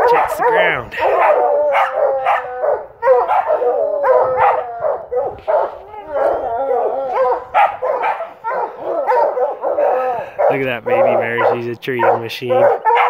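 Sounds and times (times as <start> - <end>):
dogs barking and baying: 0.0 - 13.0.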